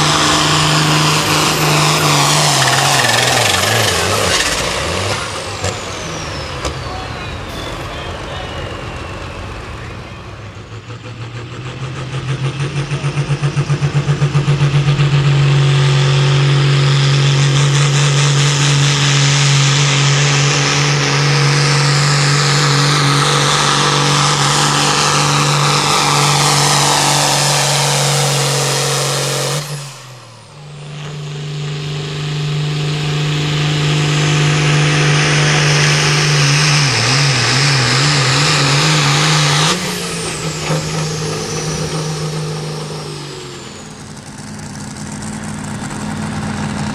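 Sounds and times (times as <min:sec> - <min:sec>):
tractor engines at full throttle: 0:00.0 - 0:46.9.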